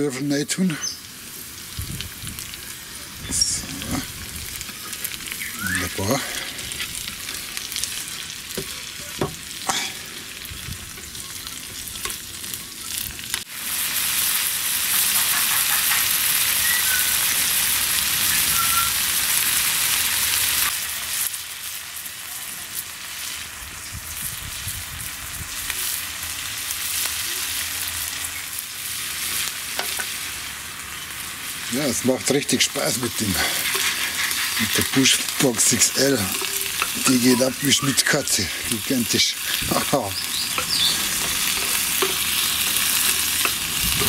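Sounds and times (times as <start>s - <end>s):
meat and vegetables sizzling in pan: 0.3s - 44.0s.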